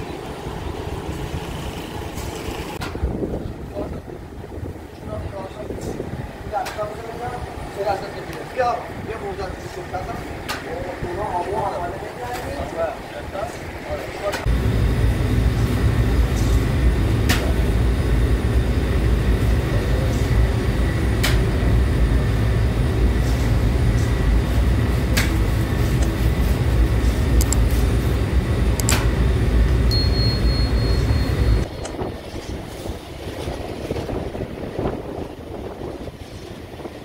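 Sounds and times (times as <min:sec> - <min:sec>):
rotating oven rumbling: 0:00.0 - 0:37.0.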